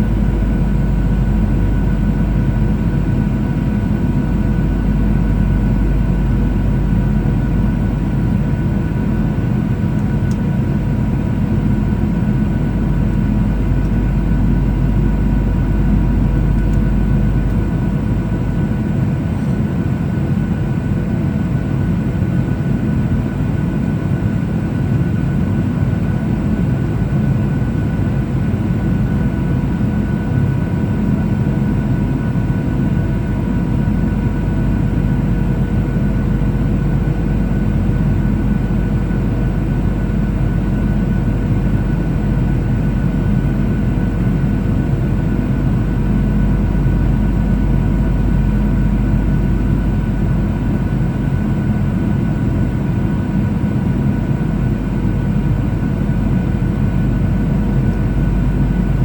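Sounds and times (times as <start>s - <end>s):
airplane cabin roar: 0.0s - 59.0s.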